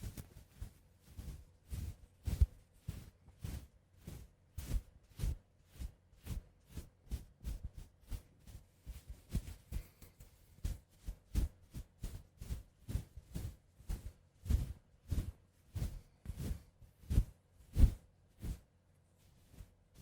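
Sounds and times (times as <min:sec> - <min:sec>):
brushy strokes on microphone: 0:00.0 - 0:20.0.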